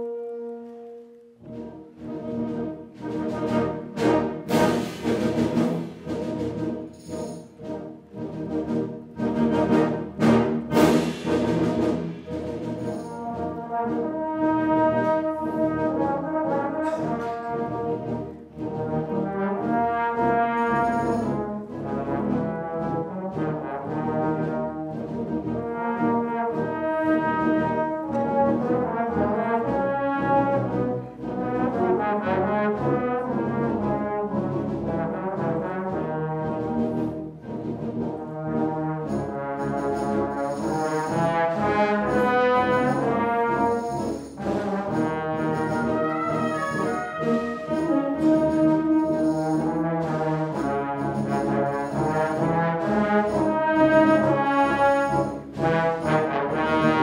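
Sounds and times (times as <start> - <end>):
trombones: 0.0 - 57.0
wind band playing: 0.0 - 57.0.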